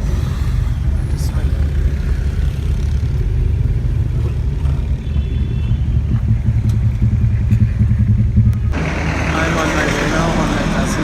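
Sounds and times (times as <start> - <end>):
road vehicle engine rumble: 0.0 - 11.0
traffic: 0.0 - 11.0.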